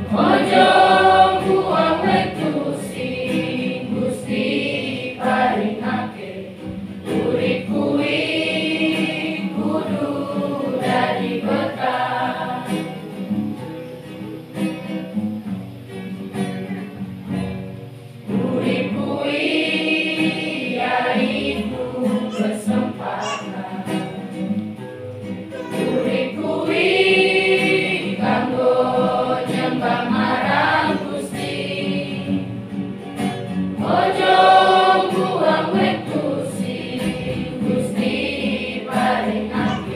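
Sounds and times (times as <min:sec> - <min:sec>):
children's choir singing: 0:00.0 - 0:13.5, 0:18.3 - 0:24.7, 0:25.4 - 0:32.9, 0:33.7 - 0:39.9.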